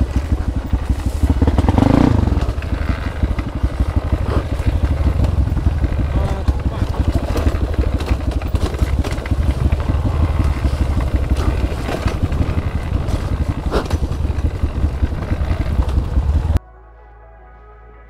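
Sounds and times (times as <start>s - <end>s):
dirt bike engine running: 0.0s - 16.6s.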